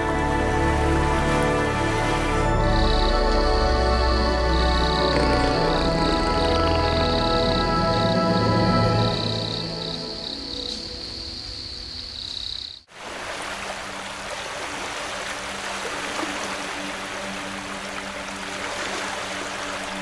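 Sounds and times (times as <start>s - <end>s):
running water rushing: 0.0s - 9.9s, 12.9s - 20.0s.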